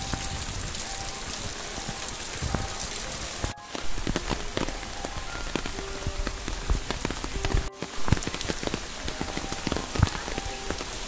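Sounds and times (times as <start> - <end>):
heavy rain on standing water: 0.0 - 11.0.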